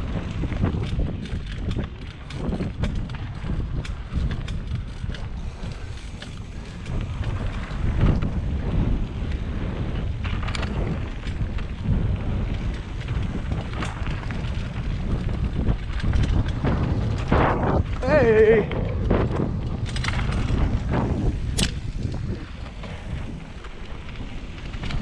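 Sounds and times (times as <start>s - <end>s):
bike clicks and rattles: 0.0s - 25.0s
tyres rumbling on dirt: 0.0s - 25.0s
wind rushing over microphone: 0.0s - 25.0s.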